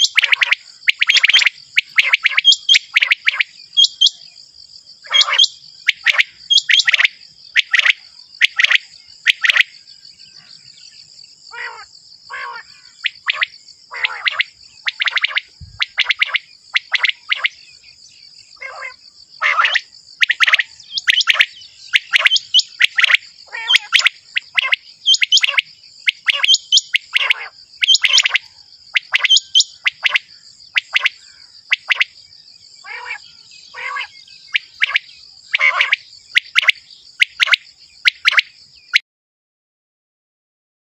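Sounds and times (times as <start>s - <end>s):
quail calling: 0.0s - 4.2s, 5.0s - 9.7s, 11.5s - 17.6s, 18.6s - 32.1s, 32.8s - 38.5s
high insect hum: 0.0s - 39.0s.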